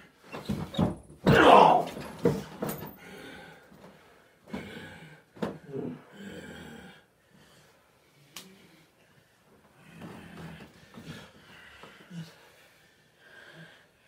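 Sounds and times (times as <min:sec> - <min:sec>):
man breathing heavily: 0:02.5 - 0:14.0.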